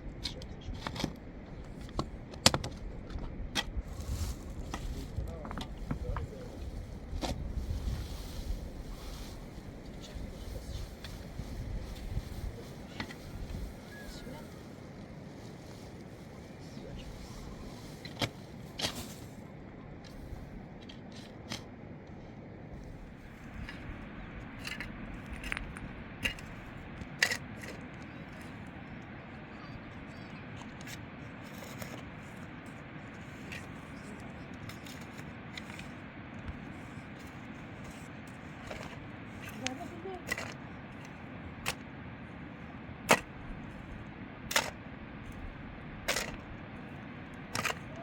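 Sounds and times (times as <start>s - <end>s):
low background noise: 0.0s - 48.0s.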